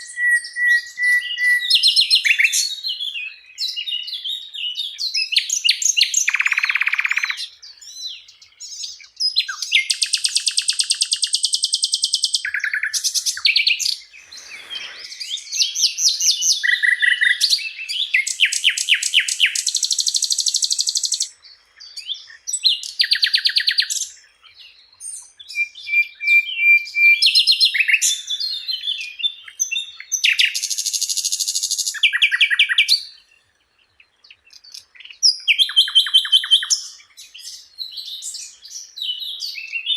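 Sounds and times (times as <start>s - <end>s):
flycatcher singing trills: 0.0s - 39.9s.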